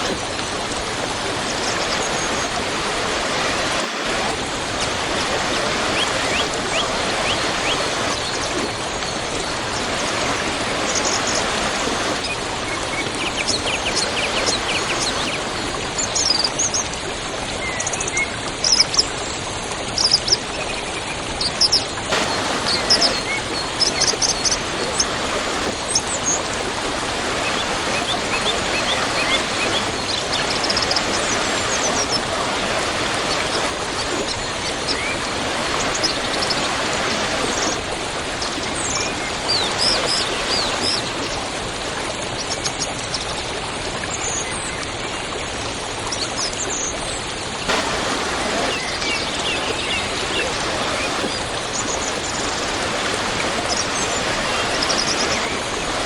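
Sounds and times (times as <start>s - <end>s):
birds chirping: 0.0s - 16.9s, 21.4s - 41.4s, 47.7s - 56.0s
waterfall rushing: 0.0s - 17.7s, 21.6s - 42.2s, 47.6s - 56.0s.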